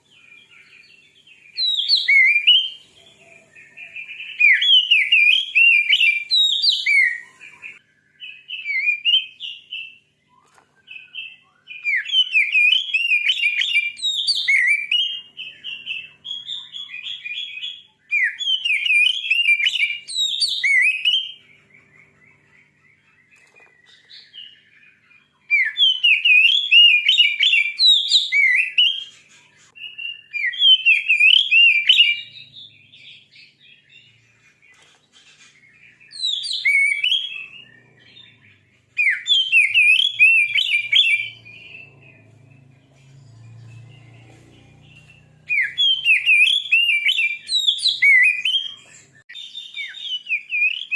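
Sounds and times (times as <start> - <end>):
bird singing whistles and chirps: 0.0 - 50.9.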